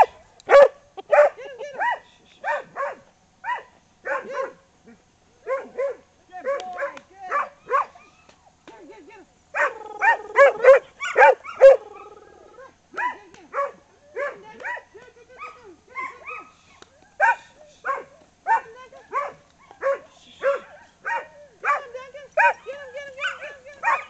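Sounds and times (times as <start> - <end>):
dog barking: 0.0 - 4.6, 5.4 - 8.0, 9.6 - 16.6, 17.2 - 24.0.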